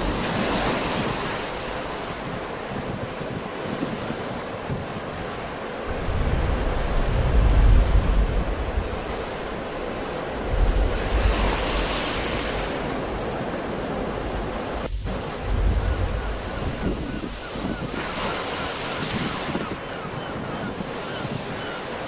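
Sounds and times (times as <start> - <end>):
sea waves breaking: 0.0 - 22.0
wind buffeting the microphone: 0.0 - 22.0.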